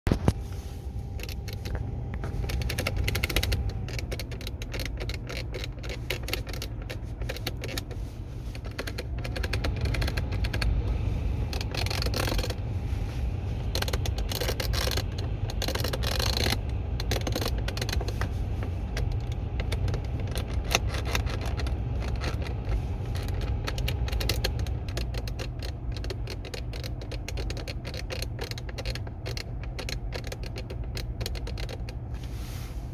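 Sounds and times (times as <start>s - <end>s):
mechanical creaking and ticking: 0.1s - 32.2s
steady low rumble: 0.1s - 32.9s.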